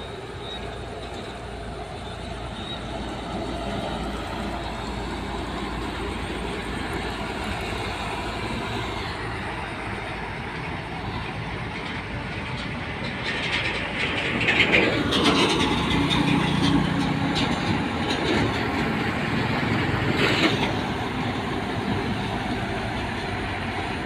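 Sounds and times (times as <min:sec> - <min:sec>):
approaching vehicle: 0:00.0 - 0:24.0
heavy trucks driving past: 0:00.0 - 0:24.0.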